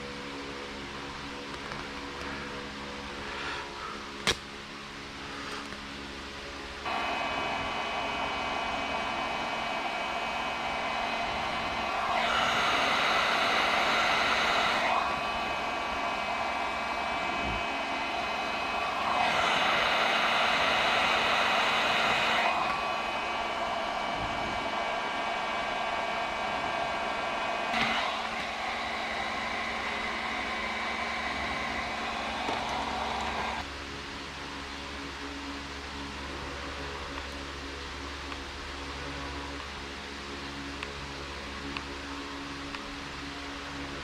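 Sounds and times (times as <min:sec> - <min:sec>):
hot-air blower whining hum: 0:00.0 - 0:36.6.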